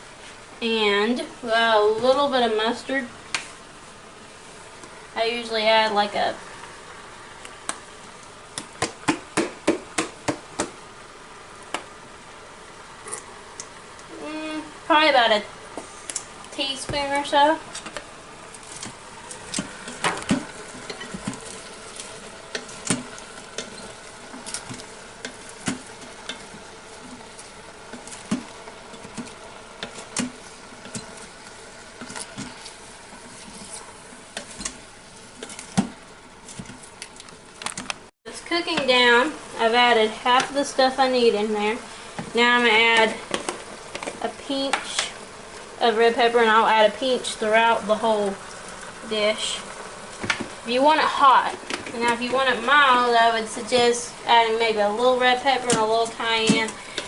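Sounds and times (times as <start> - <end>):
food sizzling in a pan: 1.6 - 37.6, 38.3 - 57.0.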